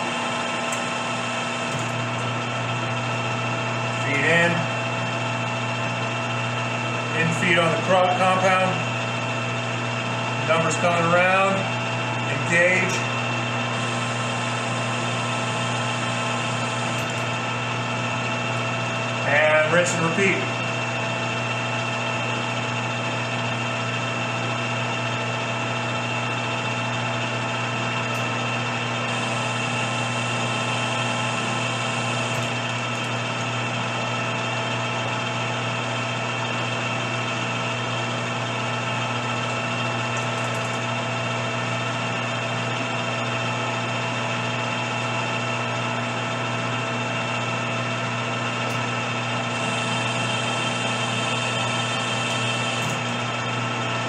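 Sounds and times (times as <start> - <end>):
metal lathe humming and whining: 0.0 - 54.0.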